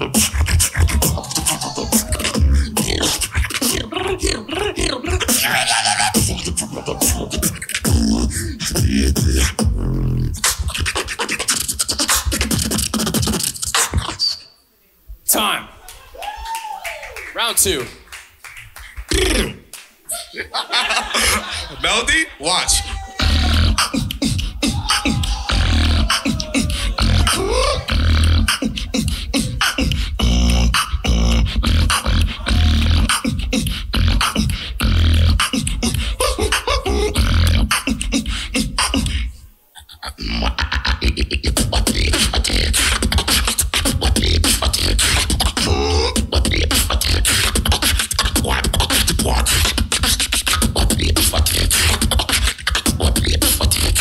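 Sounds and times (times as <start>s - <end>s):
beatboxing: 0.0s - 14.5s, 17.4s - 20.5s, 21.1s - 54.0s.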